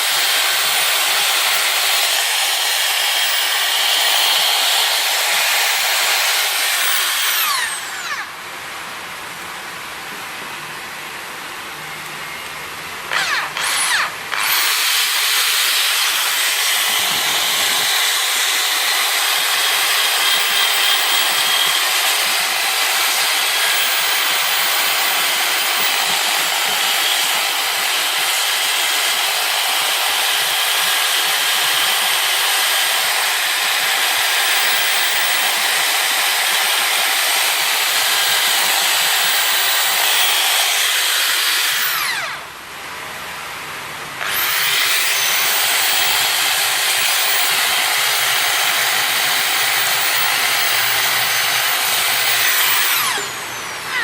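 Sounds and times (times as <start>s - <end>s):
power wire brush scrubbing metal: 0.0s - 8.3s, 13.1s - 42.4s, 44.2s - 54.0s.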